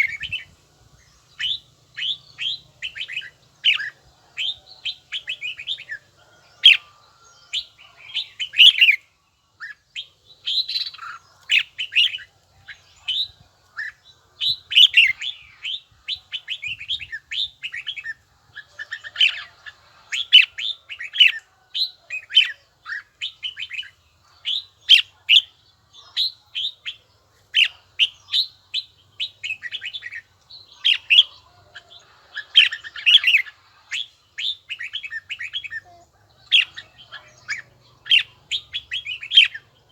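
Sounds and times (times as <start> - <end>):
bird singing bright chirping phrases: 0.0 - 39.9.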